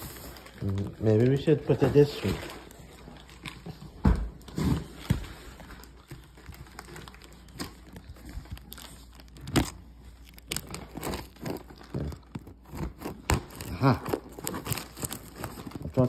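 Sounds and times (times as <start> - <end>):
packaging crinkling and crackling: 0.0 - 16.0.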